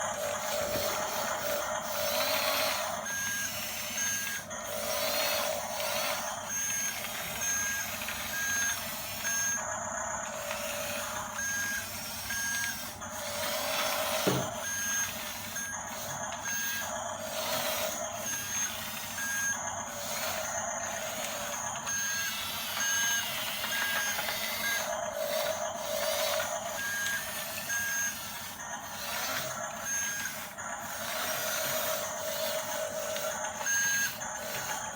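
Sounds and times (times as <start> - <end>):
toy bulldozer motor whining: 0.0 - 34.9
electronic reversing beep: 0.1 - 34.9.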